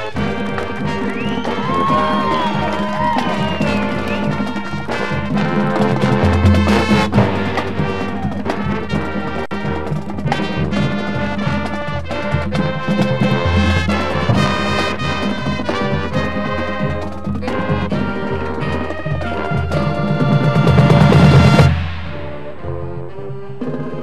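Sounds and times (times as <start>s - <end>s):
sustained brass chords: 0.0s - 24.0s
drum hits: 0.2s - 22.9s.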